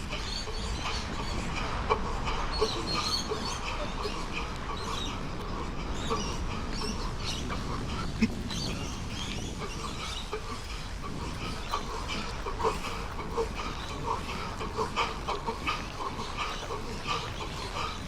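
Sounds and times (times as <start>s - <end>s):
runner wheezing breathing: 0.0s - 18.0s.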